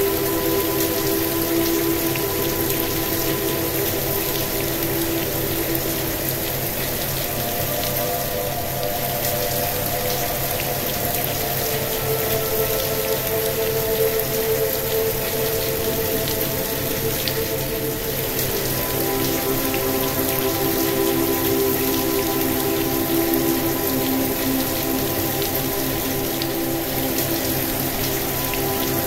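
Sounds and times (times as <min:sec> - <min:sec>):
droning relaxation music: 0:00.0 - 0:29.0
steady rain falling: 0:00.0 - 0:29.0.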